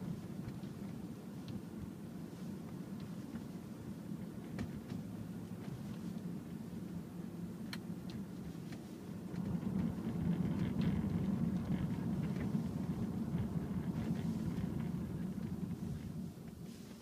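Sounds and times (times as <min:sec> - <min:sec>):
car engine rumble from inside: 0:00.0 - 0:17.0.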